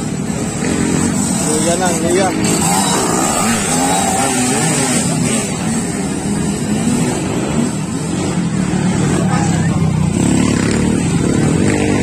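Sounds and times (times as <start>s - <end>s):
small motorcycle engines running: 0.0s - 12.0s.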